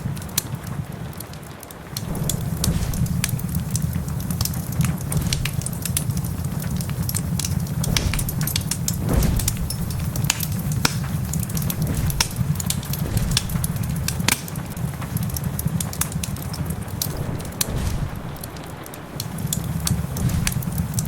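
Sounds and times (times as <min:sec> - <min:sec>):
heavy rain: 0:00.0 - 0:21.0
wood fire crackling and popping: 0:00.0 - 0:21.0
low rumble: 0:01.9 - 0:21.0.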